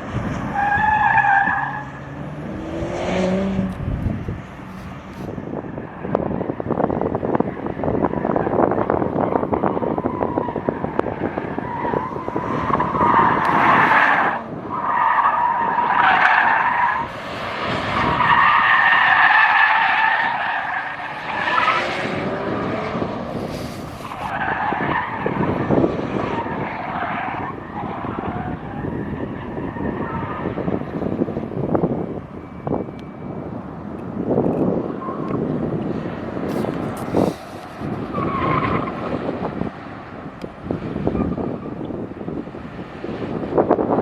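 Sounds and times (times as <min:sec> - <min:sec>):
car tyres squealing: 0:00.0 - 0:44.0
wind buffeting microphone: 0:00.0 - 0:44.0.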